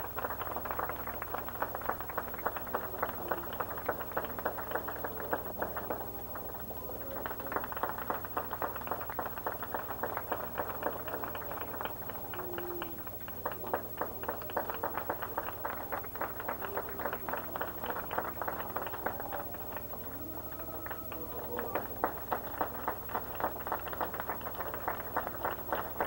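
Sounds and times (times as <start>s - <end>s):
audience applauding: 0.0s - 26.0s
faint voices: 0.0s - 26.0s.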